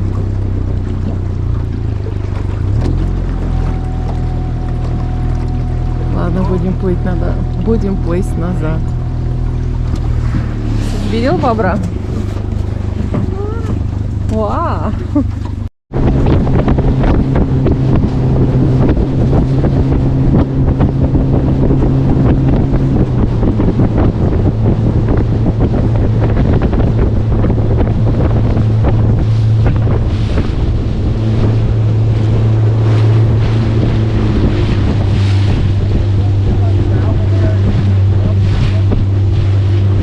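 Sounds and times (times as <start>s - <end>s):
motorboat engine running: 0.0s - 40.0s
water rushing past hull: 0.0s - 40.0s
wind buffeting microphone: 0.0s - 40.0s.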